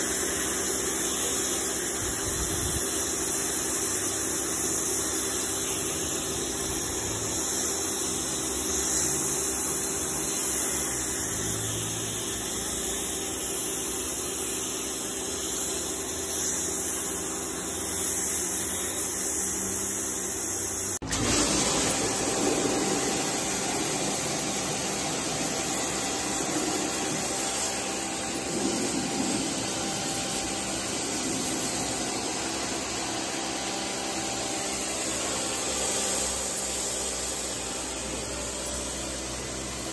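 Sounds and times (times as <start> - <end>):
water spraying onto carpet: 0.0 - 19.8, 21.0 - 39.9
pressure washer motor humming: 0.0 - 39.9.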